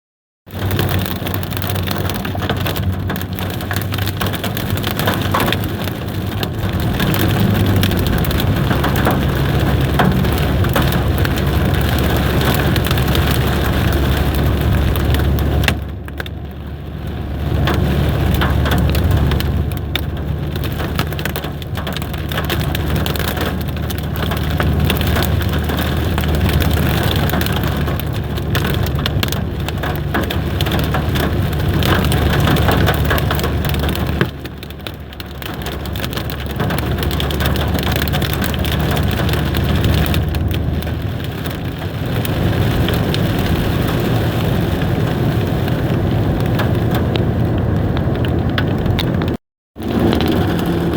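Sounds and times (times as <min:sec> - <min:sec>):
hail drumming on a car: 0:00.5 - 0:50.9
car engine humming: 0:01.6 - 0:34.1, 0:42.0 - 0:50.9.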